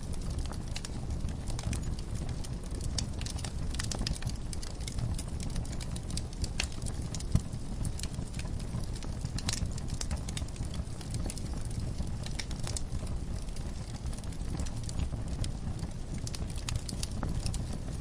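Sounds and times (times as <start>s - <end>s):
fire popping and crackling: 0.0s - 18.0s
wood fire burning: 0.0s - 18.0s.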